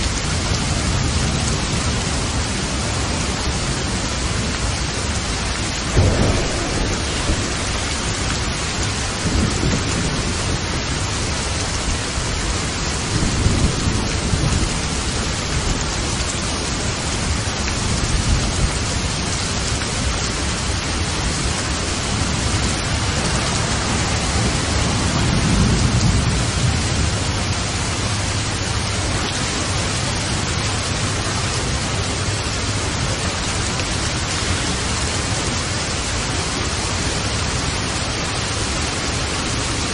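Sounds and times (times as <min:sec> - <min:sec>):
heavy rain hissing: 0:00.0 - 0:39.9
thunder rumbling: 0:00.0 - 0:39.9.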